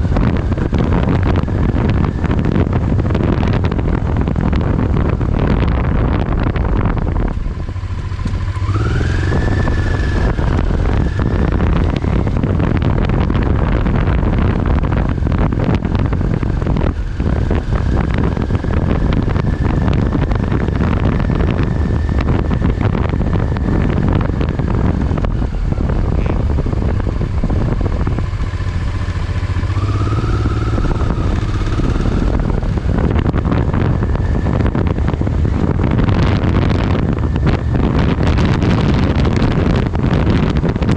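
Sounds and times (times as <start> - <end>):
motorcycle engine at speed: 0.0 - 40.9
wind rumble on microphone: 0.0 - 40.9.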